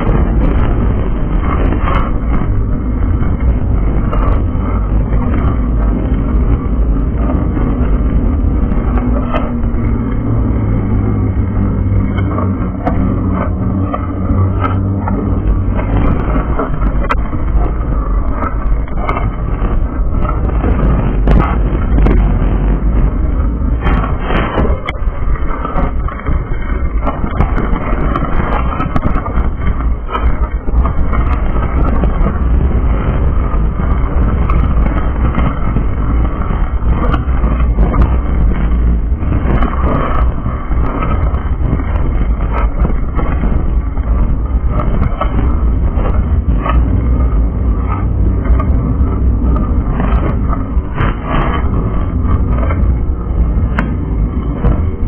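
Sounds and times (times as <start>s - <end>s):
bicycle ride rumble: 0.0s - 55.0s.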